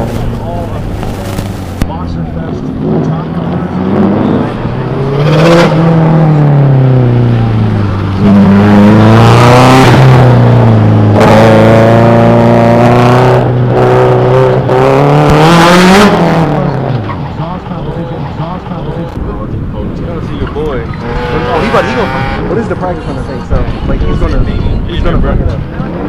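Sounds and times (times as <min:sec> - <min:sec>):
car engine running hard: 0:00.0 - 0:24.4.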